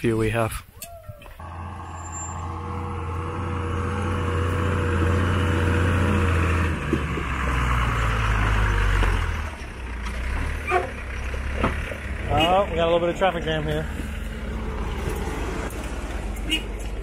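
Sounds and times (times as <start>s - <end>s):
truck engine in low gear: 1.2s - 17.0s.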